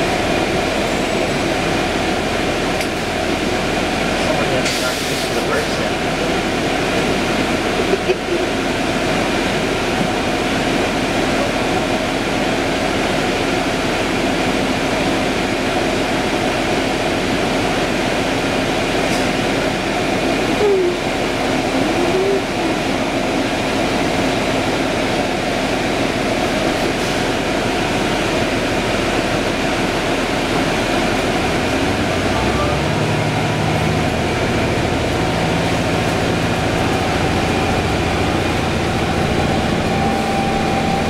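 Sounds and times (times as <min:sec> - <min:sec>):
bus engine and ventilation drone: 0:00.0 - 0:41.0.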